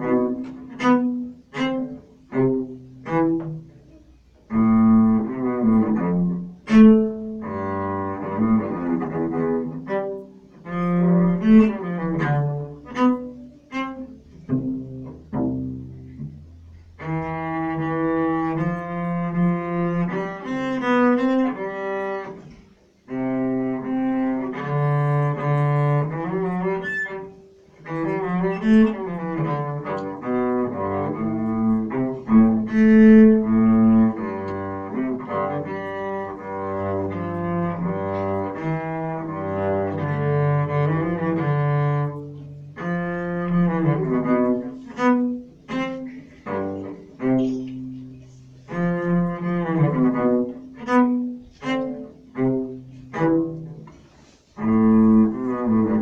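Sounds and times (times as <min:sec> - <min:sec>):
bowed cello melody: 0:00.0 - 0:56.0.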